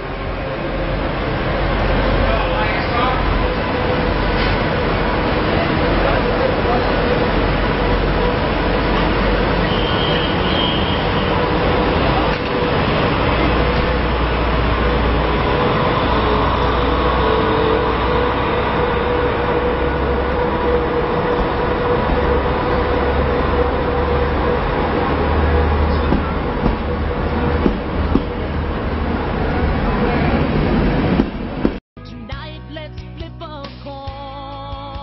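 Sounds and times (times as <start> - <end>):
train rumbling: 0.0 - 31.8.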